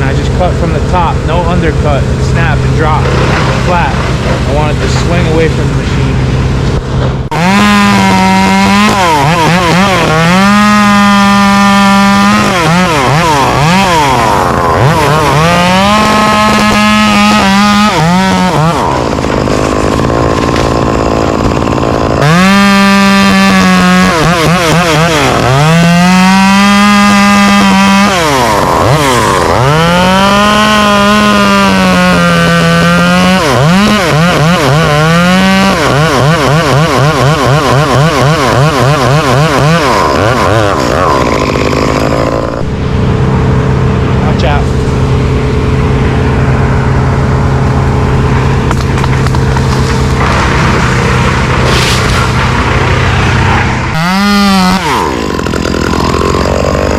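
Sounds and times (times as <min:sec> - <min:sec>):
chainsaw cutting: 0:00.0 - 0:56.9.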